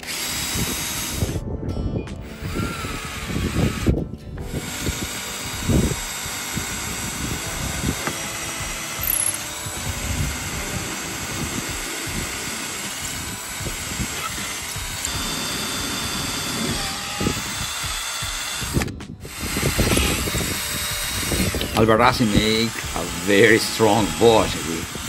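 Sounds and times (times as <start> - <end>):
cordless drill boring into wood: 0.0 - 1.4, 2.2 - 25.0.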